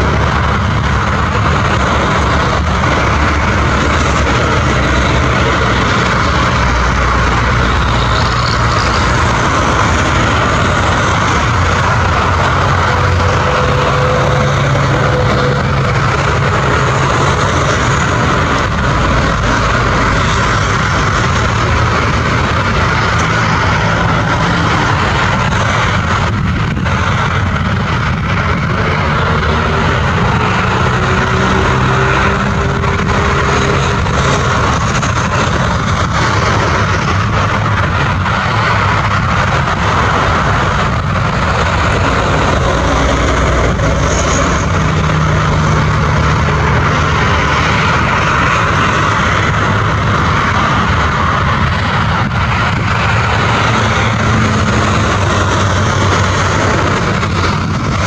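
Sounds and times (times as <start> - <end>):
jet engines at taxi power: 0.0 - 58.0.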